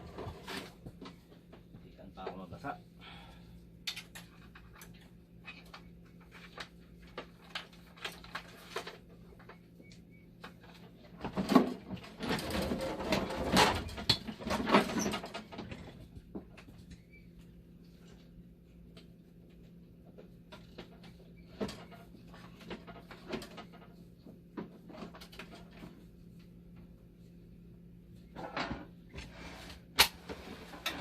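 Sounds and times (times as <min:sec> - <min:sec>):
rustling and scraping: 0:00.0 - 0:02.6, 0:04.1 - 0:27.5, 0:28.1 - 0:31.0
faint steady hum: 0:00.0 - 0:31.0.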